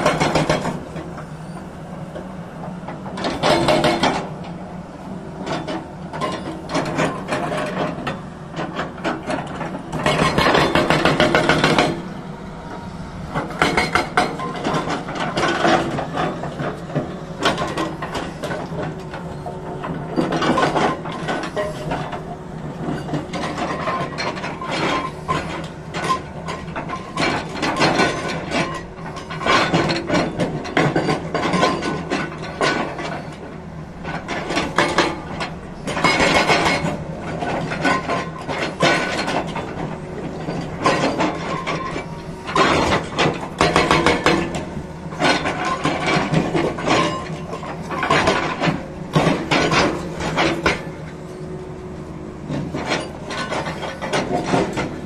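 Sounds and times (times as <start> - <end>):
hydraulic rock breaker hammering: 0.0 - 1.1, 3.0 - 4.3, 5.5 - 12.1, 13.3 - 51.3, 52.4 - 55.0
excavator engine running: 0.0 - 55.0.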